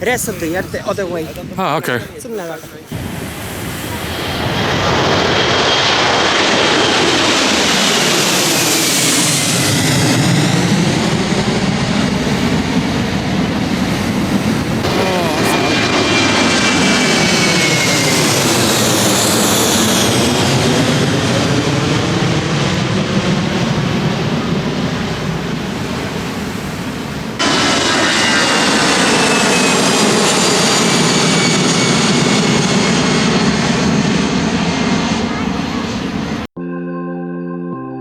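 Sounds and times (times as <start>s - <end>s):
jet airliner passing overhead: 0.0s - 36.5s.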